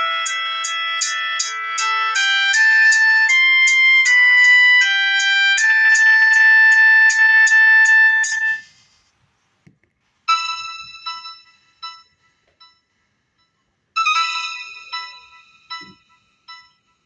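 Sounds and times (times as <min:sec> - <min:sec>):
phone electronic melody: 0:00.0 - 0:09.0, 0:10.3 - 0:17.0.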